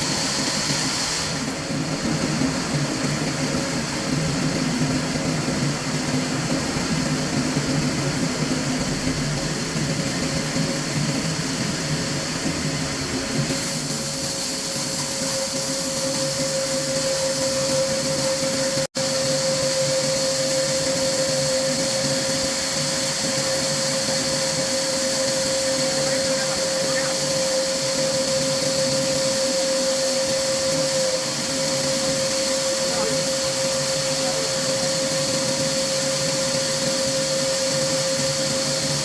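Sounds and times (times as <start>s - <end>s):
machine whining: 0.0s - 39.0s.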